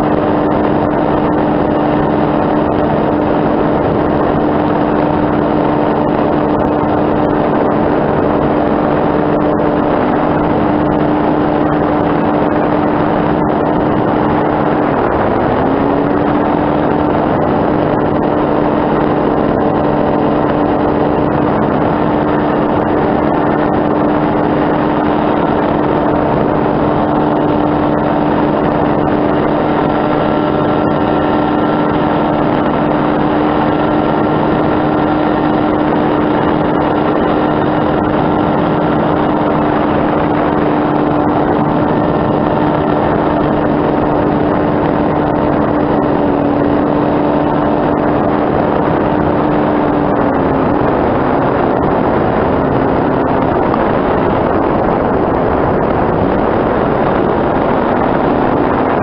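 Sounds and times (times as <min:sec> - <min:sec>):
hang glider motor running: 0:00.0 - 0:59.0
rush of noise: 0:00.0 - 0:59.0.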